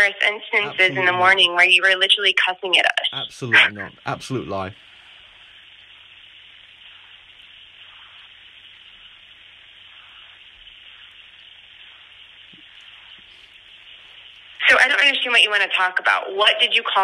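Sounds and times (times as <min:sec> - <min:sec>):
faint low hum: 0:00.0 - 0:17.0
telephone line hiss: 0:00.0 - 0:17.0.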